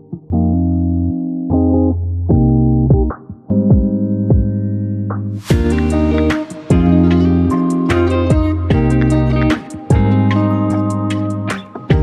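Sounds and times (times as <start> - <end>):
synth and keyboard chords: 0.0 - 12.0.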